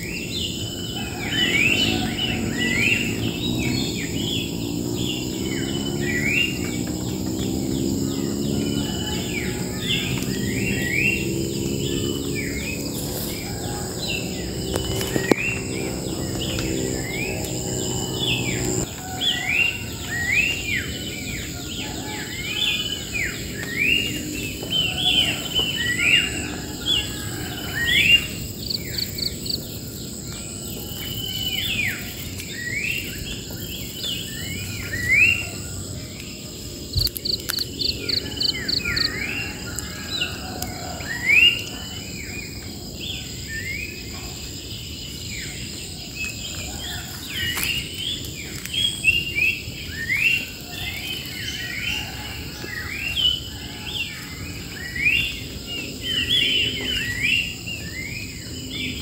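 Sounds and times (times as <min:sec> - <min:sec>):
wild birds calling: 0:00.0 - 0:59.0.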